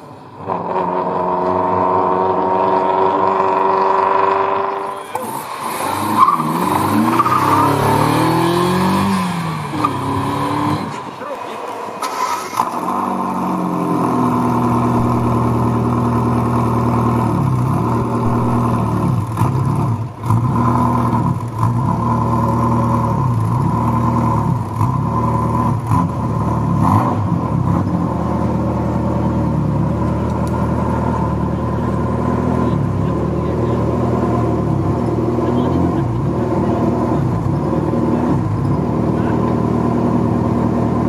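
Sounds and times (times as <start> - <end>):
car engine idling: 4.6 - 41.0.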